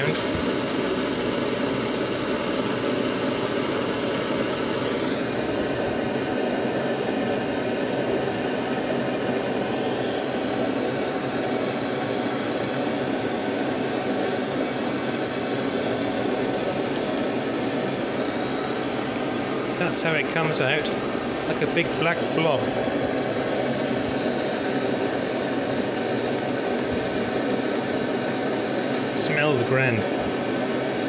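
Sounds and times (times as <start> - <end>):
blowtorch flame hissing: 0.0 - 31.0.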